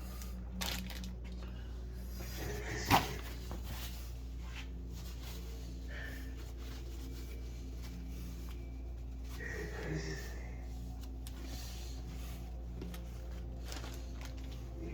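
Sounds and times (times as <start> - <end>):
low room hum: 0.0 - 14.9.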